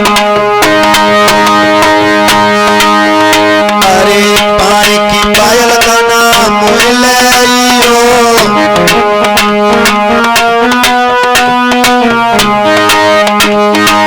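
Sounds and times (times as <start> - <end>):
hand drum beat: 0.0 - 14.0
held notes: 0.0 - 14.0
wavering lead melody: 0.0 - 14.0.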